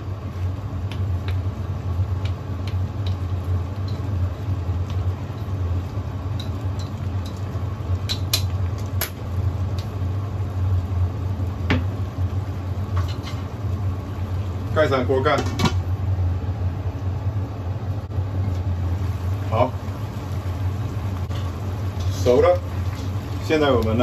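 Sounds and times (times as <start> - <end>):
low mechanical hum: 0.0 - 24.0
soup boiling in a wok: 0.0 - 24.0.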